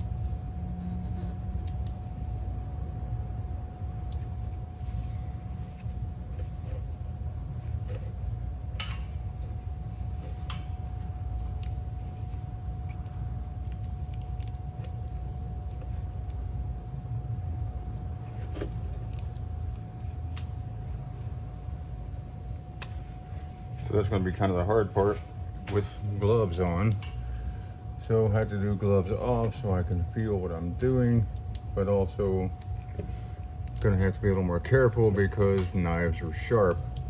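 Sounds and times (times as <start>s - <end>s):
faint steady whine: 0.0s - 37.0s
steady low rumble: 0.0s - 37.0s.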